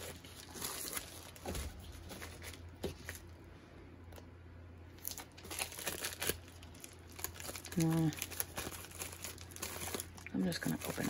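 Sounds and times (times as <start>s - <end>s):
padded envelope rustling: 0.0s - 3.3s, 5.0s - 11.0s
steady low hum: 0.0s - 11.0s.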